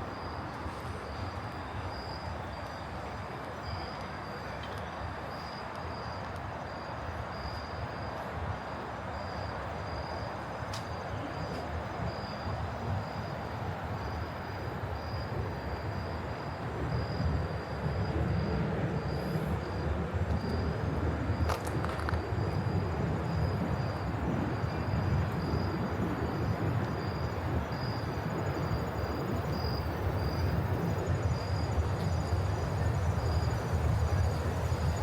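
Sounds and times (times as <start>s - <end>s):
low rumble of city noise: 0.0s - 35.0s.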